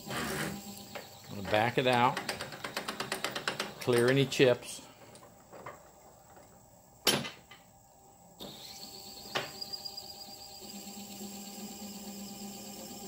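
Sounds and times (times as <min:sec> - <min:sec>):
lathe hum with high whine: 0:00.0 - 0:07.0, 0:07.6 - 0:13.0.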